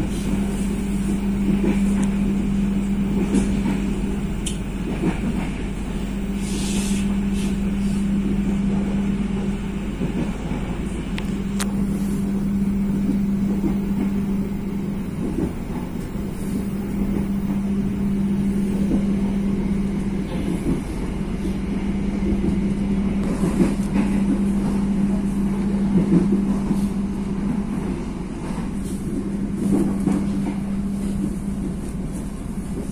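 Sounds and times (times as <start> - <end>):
train hum: 0.0 - 32.9
train running rumble: 0.0 - 32.9.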